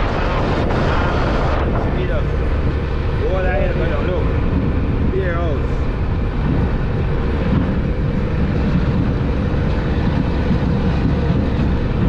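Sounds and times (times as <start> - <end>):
vehicle rumble while moving: 0.0 - 12.0.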